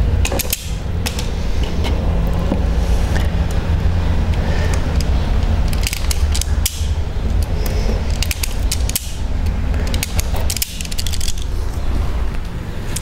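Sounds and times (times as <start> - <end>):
low rumble: 0.0 - 13.0
wire strippers clicking: 0.0 - 13.0.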